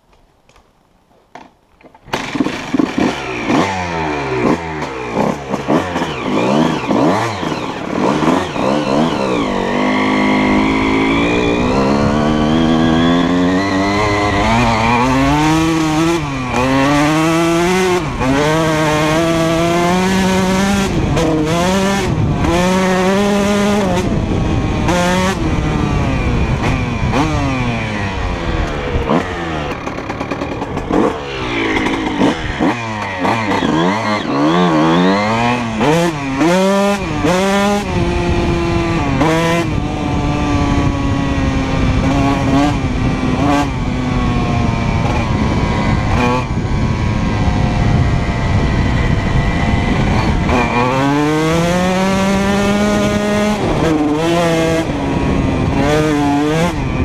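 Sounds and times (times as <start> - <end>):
motorcycle engine revving: 2.0 - 57.0.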